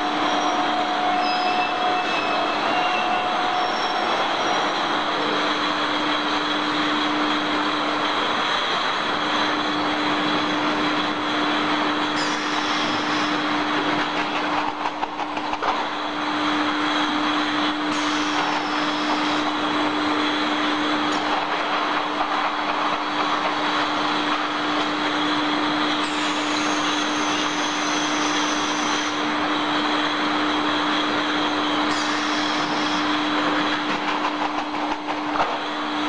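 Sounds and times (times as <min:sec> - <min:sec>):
industrial machinery hum: 0:00.0 - 0:36.0.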